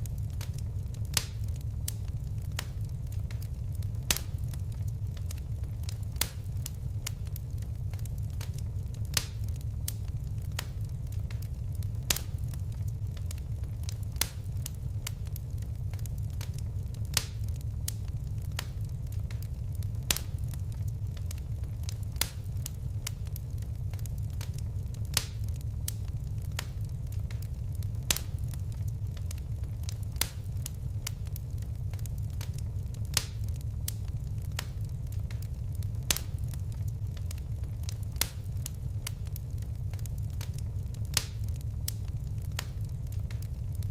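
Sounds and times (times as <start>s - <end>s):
fire pops and snaps: 0.0s - 43.9s
low rumble of burning: 0.0s - 43.9s.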